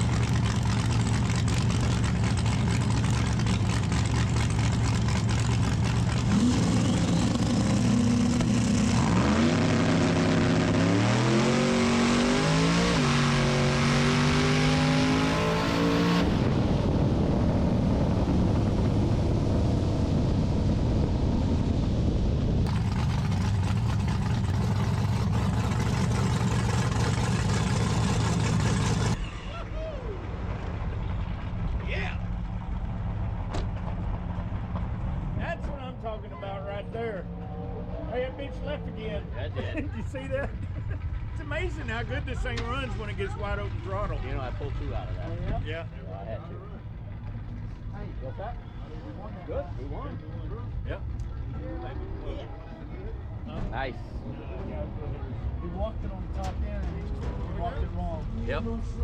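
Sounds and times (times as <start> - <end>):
truck engine at full throttle: 0.0 - 59.0.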